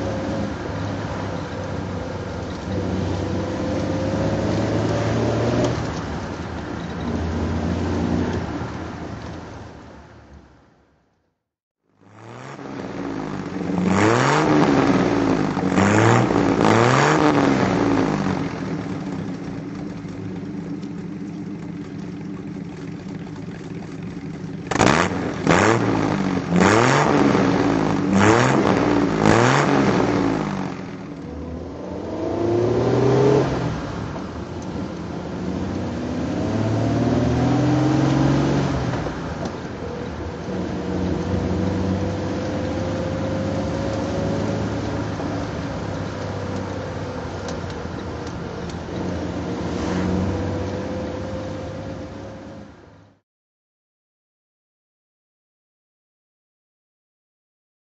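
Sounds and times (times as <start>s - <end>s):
car engine idling and revving: 0.0s - 10.8s, 11.9s - 53.2s.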